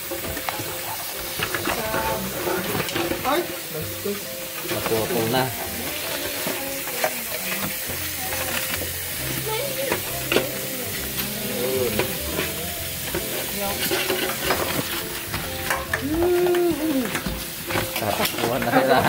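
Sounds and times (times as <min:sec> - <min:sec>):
crab shells clicking and scraping: 0:00.0 - 0:19.0.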